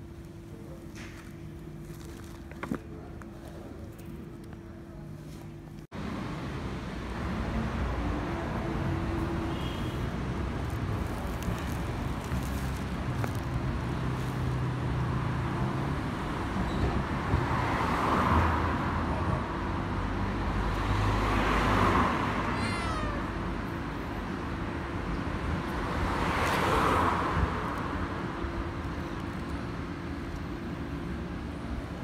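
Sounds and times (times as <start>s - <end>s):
street traffic noise: 0.0s - 32.0s
vehicles passing: 0.0s - 32.0s.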